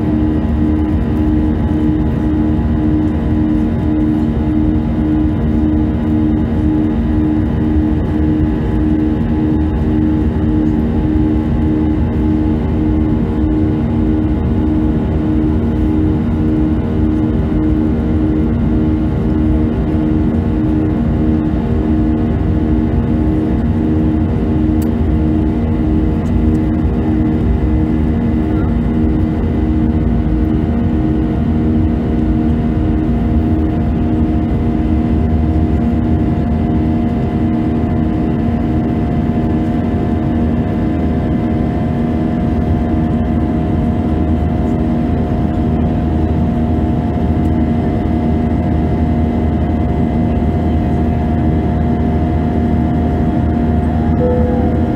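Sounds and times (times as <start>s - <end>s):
jet engine rumble and roar: 0.0s - 54.9s
pulsing hum: 0.0s - 54.9s.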